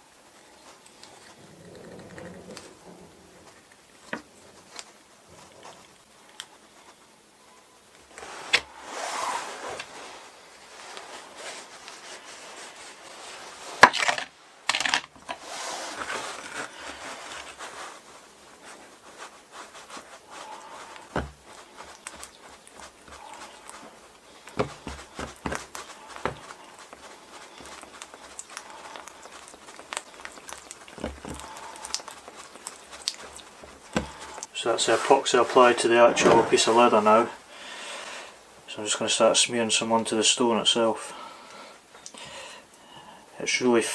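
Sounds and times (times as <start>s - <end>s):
rustling and scraping: 0.0s - 41.3s.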